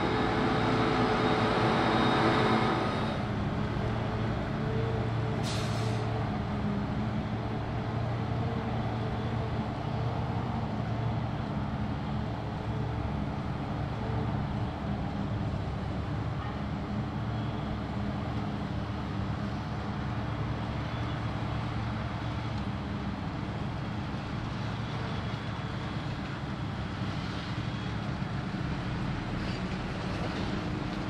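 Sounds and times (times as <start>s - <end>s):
diesel engines running steadily: 0.0s - 31.0s.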